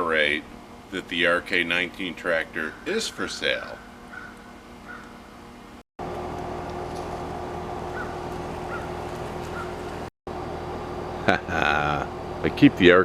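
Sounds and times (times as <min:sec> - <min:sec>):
machine hum with fixed tones: 0:00.0 - 0:13.0.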